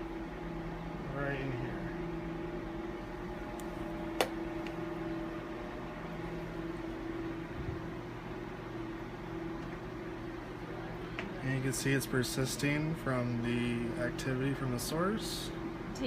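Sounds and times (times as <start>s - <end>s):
mechanical equipment hum: 0.0s - 16.0s.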